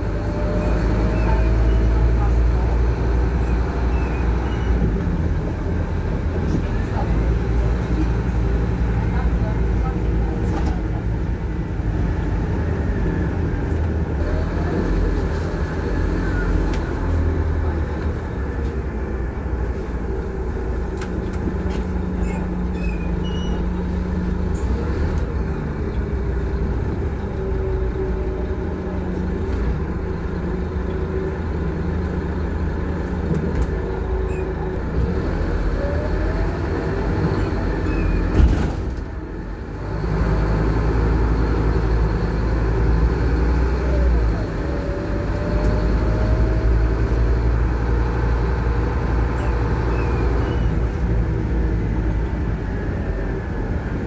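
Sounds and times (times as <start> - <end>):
bus engine: 0.0 - 54.0
road noise: 0.0 - 54.0.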